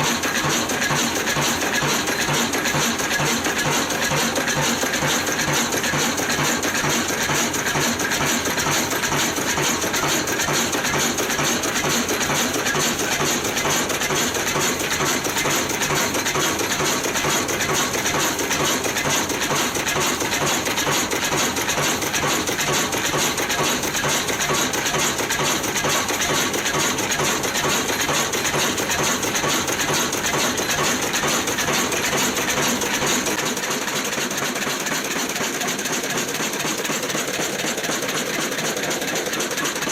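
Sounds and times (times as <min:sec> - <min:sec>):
diesel engine clattering: 0:00.0 - 0:39.9.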